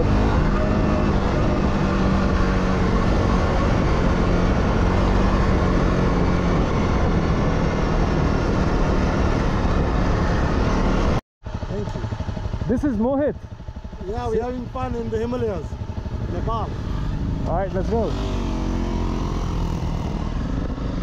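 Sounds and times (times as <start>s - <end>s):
dirt bike engine droning: 0.0s - 21.0s
road and wind noise: 0.0s - 21.0s.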